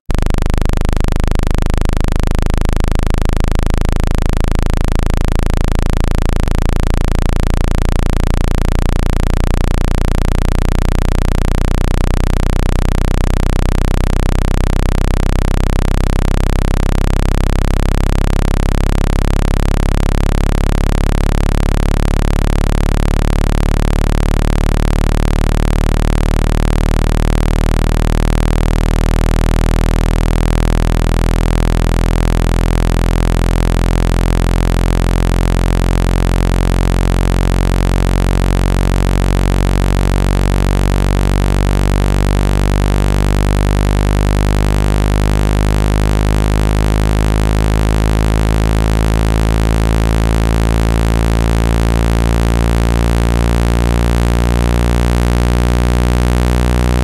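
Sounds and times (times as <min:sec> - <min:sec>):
deep electronic buzz: 0:00.0 - 0:57.0.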